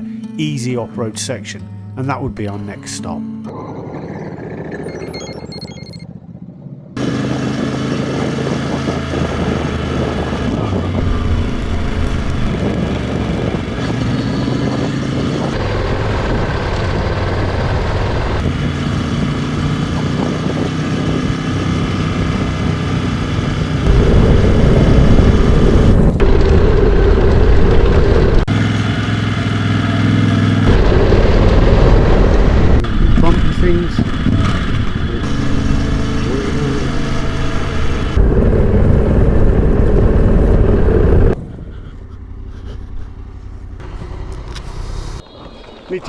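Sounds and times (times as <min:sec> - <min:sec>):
wind and road noise: 0:03.5 - 0:46.0
motorcycle engines running: 0:06.0 - 0:46.0.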